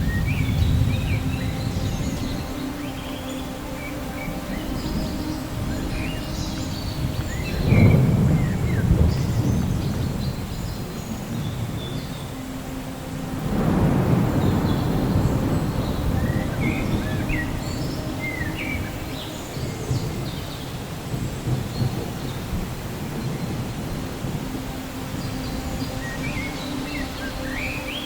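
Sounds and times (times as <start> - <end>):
thunder rumbling: 0.0 - 2.8, 3.6 - 27.8
birds chirping: 0.0 - 28.0
steady rain: 0.0 - 28.0.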